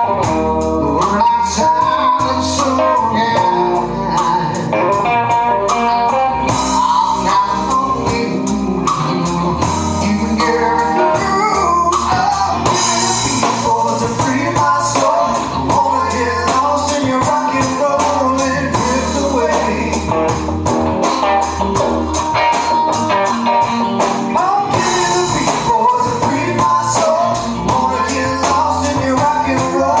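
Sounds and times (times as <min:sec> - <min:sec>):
drum kit beat: 0:00.0 - 0:30.0
electric guitar: 0:00.0 - 0:30.0.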